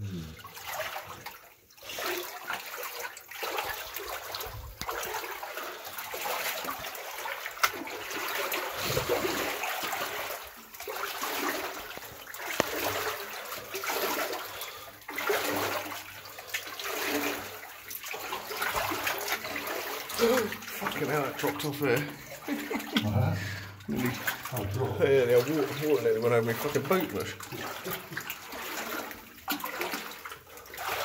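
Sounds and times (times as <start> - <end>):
water sloshing from wading: 0.2 - 31.0.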